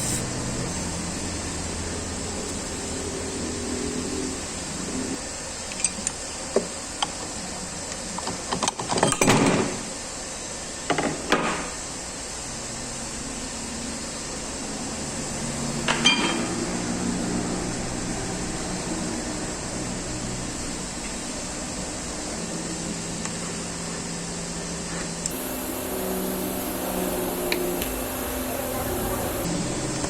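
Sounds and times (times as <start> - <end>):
mechanical hum: 0.0 - 7.9, 11.8 - 30.0.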